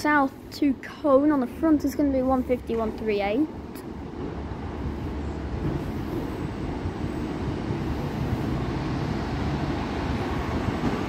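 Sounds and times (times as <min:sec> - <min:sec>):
train engine rumble: 0:00.0 - 0:11.0
train wheels on rails: 0:00.0 - 0:11.0.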